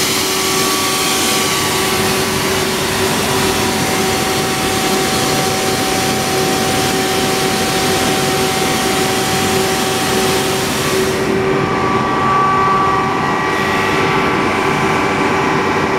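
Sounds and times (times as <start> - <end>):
air compressor drone: 0.0 - 15.9.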